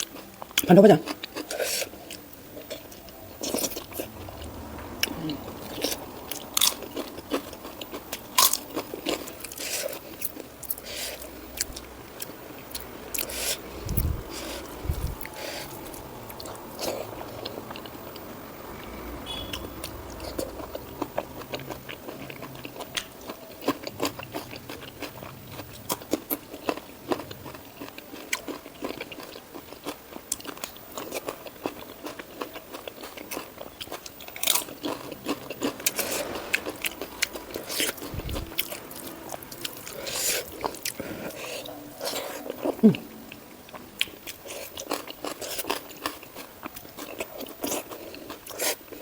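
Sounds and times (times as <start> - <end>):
person chewing crunchy food: 0.0 - 49.0.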